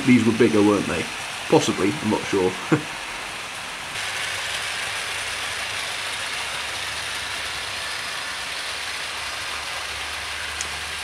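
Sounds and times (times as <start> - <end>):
model train wheels on rails: 0.0 - 11.0.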